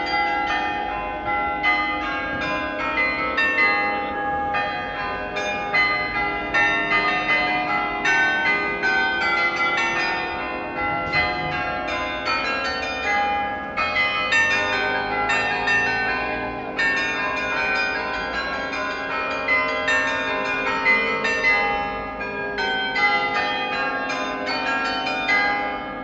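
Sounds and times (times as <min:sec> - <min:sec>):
carillon bells playing a tune: 0:00.0 - 0:25.9.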